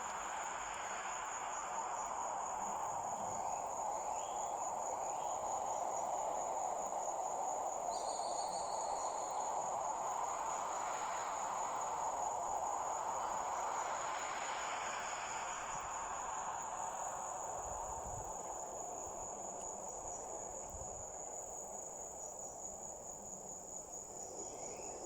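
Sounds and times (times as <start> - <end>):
background hiss: 0.0 - 25.0
crickets trilling: 0.0 - 25.0.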